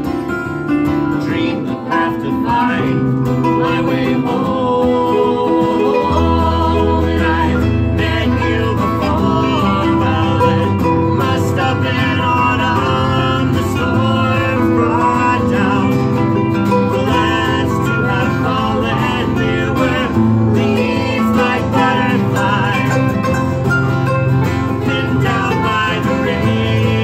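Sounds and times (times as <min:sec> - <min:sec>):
acoustic guitar plucking: 0:00.0 - 0:27.0
harp plucking: 0:00.0 - 0:27.0.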